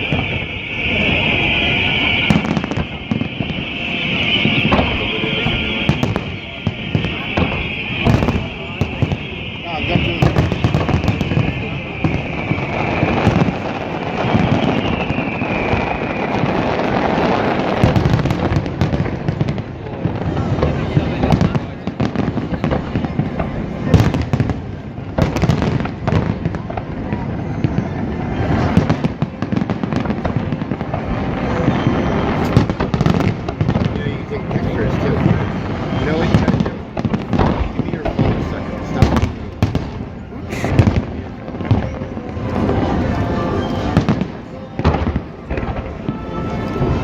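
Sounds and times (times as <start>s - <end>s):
firework booms: 0.0s - 47.0s
firework crackling: 0.0s - 47.0s.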